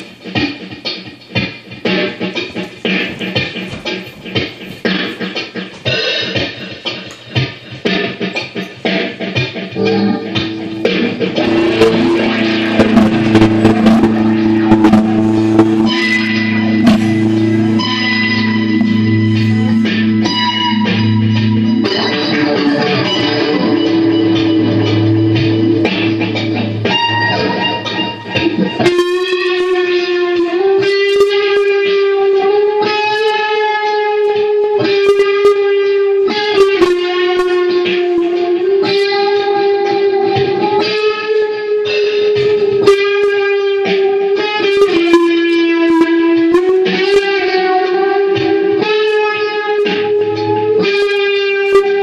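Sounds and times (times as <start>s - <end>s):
electric guitar through amplifier: 0.0s - 52.0s.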